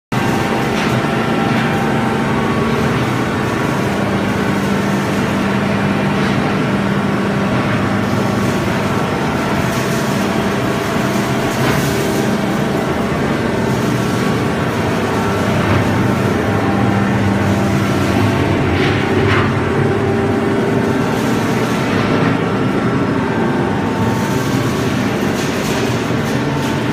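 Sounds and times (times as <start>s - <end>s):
baler machine hum: 0.1s - 26.9s.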